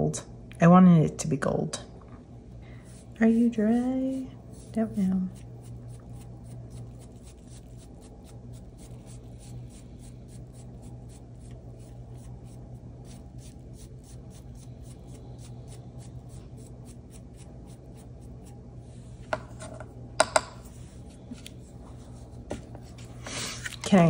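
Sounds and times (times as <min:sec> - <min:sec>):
paintbrush dabbing and scratching: 0:02.7 - 0:19.6, 0:20.6 - 0:23.8.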